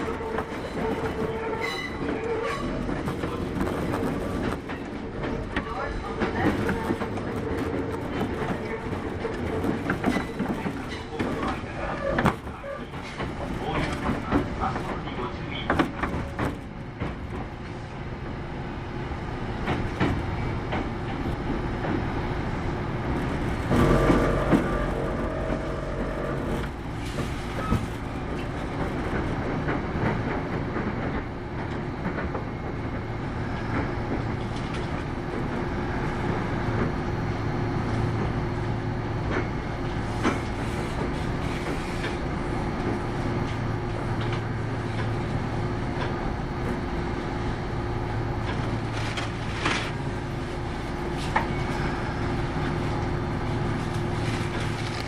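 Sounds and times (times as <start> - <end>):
rail clicks: 0.0 - 18.4, 19.4 - 50.4
train wheels and motors rumbling: 0.0 - 55.0.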